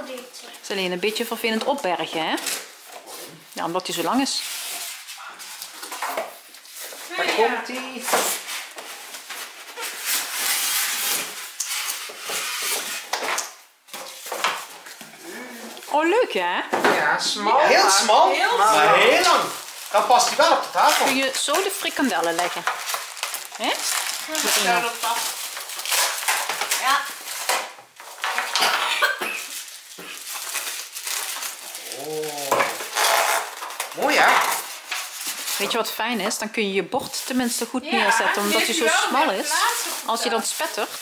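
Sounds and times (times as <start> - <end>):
packaging rustling and scraping: 1.2 - 15.2, 18.7 - 41.0.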